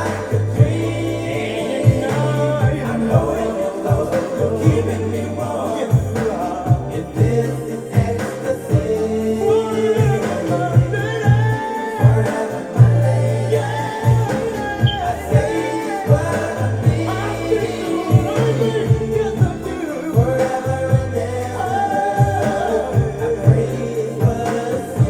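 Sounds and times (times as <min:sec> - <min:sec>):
music with singing voices: 0:00.0 - 0:25.0.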